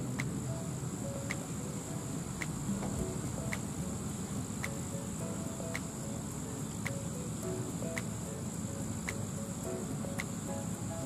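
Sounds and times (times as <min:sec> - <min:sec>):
insect high-pitched buzz: 0:00.0 - 0:11.0.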